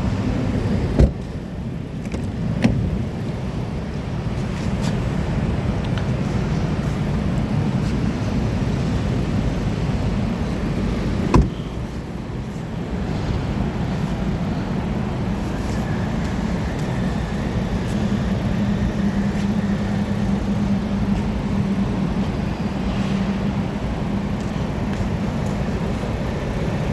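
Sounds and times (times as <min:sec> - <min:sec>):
car engine humming: 0:00.0 - 0:26.9.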